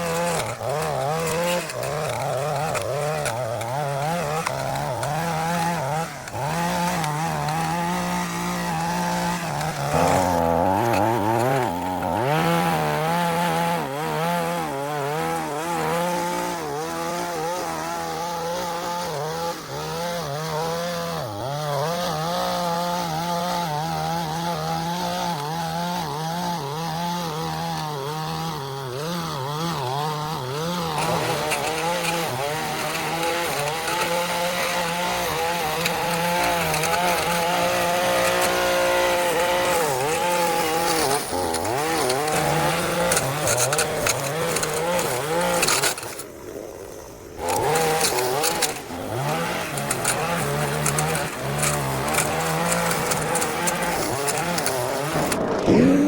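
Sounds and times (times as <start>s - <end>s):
small gasoline engine under load: 0.0s - 56.0s.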